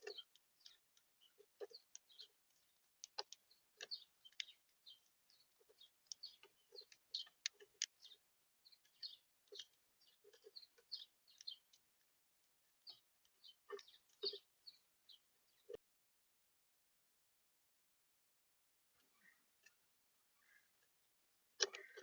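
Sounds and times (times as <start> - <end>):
small birds chirping: 0.0 - 15.8, 19.0 - 22.0.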